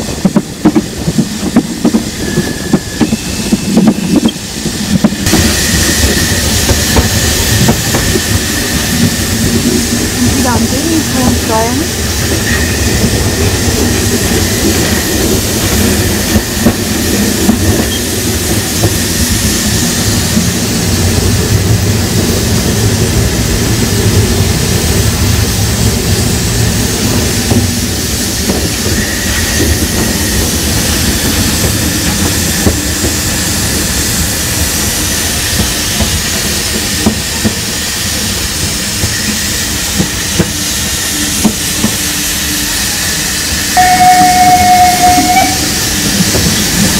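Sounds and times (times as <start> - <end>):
rail clicks: 0.0 - 46.9
steam hissing: 0.0 - 46.9
steam locomotive wheels rumbling: 0.0 - 46.9.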